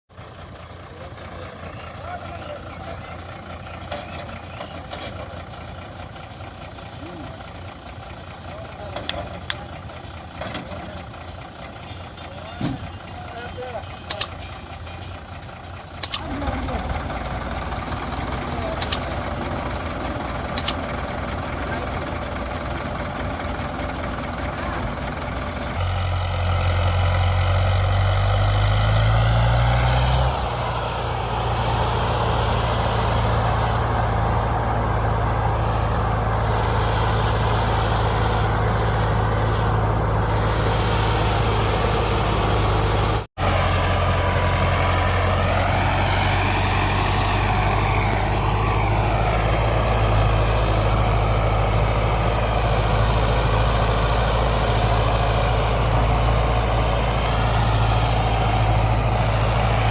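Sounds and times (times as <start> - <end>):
heavy diesel engines working hard: 0.1 - 59.9.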